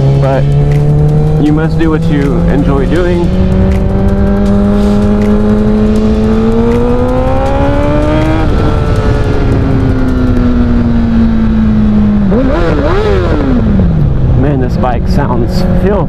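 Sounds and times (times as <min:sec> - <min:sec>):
motorcycle engine accelerating: 0:00.0 - 0:16.0
wind rush on microphone: 0:00.0 - 0:16.0.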